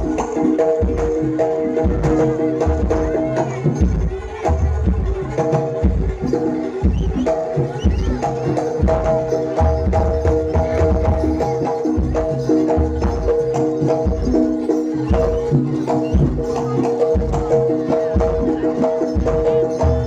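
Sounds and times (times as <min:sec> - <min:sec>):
drum beats: 0:00.0 - 0:20.0.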